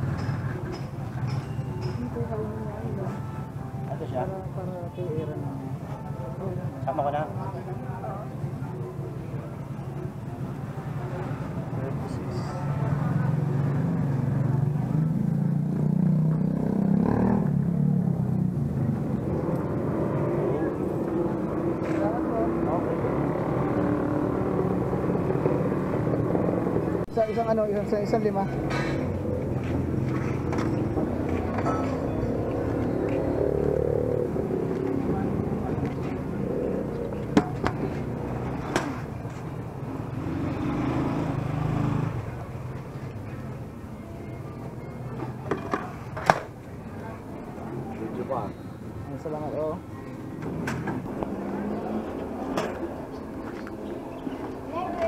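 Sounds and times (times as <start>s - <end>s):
street traffic rumble: 0.0s - 55.0s
vehicle engine droning: 10.0s - 55.0s.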